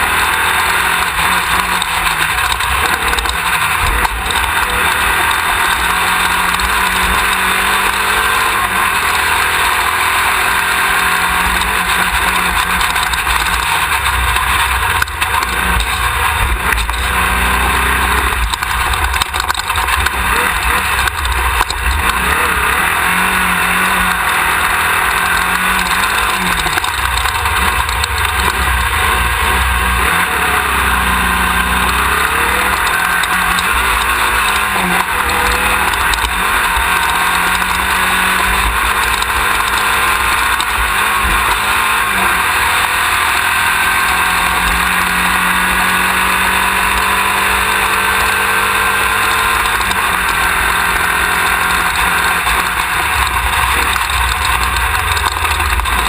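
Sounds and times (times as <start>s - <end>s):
chassis rattle: 0.0s - 42.0s, 49.5s - 56.0s
race car engine revving: 0.0s - 56.0s.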